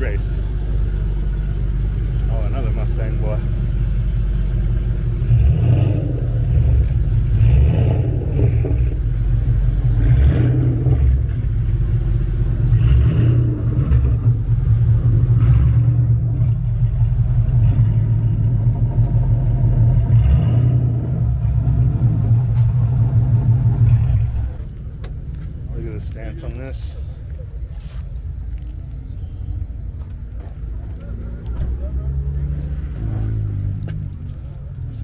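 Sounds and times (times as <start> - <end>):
car engine exhaust rumble: 0.0 - 35.0.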